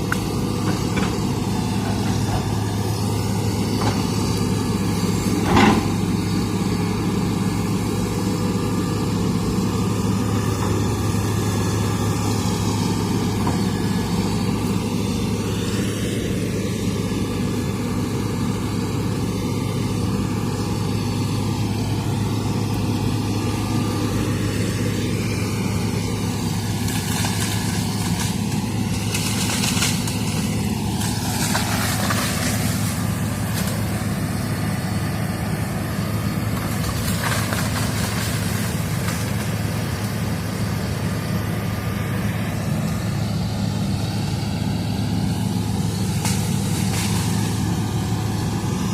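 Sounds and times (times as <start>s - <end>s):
excavator diesel engine humming: 0.0s - 48.9s.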